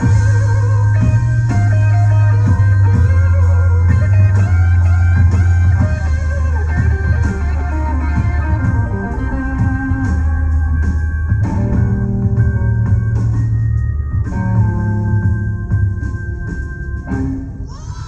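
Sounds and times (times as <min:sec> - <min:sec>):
blues electric guitar: 0:00.0 - 0:17.7
deep bass line: 0:00.0 - 0:17.7.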